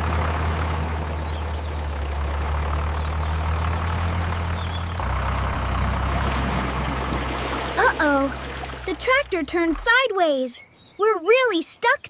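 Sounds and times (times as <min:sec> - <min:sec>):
cartoon tractor engine drone: 0:00.0 - 0:10.0.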